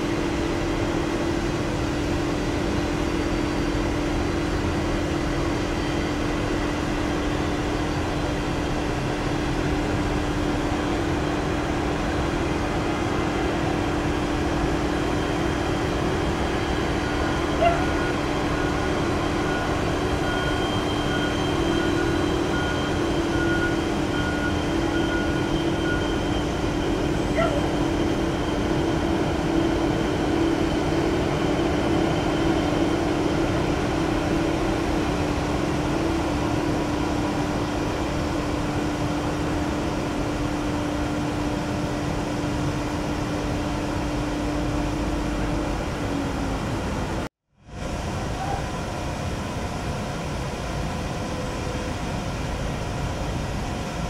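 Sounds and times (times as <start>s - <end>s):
distant jet engines droning: 0.0s - 54.0s.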